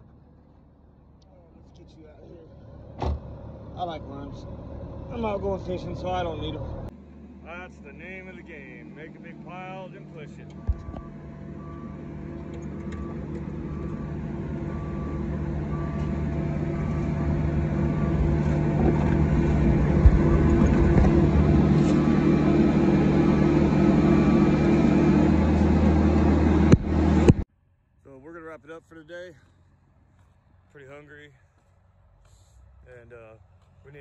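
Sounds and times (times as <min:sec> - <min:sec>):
excavator diesel engine: 0:00.0 - 0:27.4.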